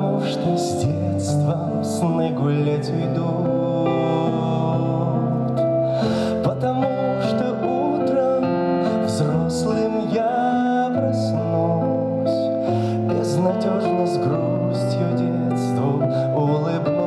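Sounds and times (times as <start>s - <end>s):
keyboard chords: 0.0s - 17.0s
person singing with vibrato: 0.0s - 17.0s.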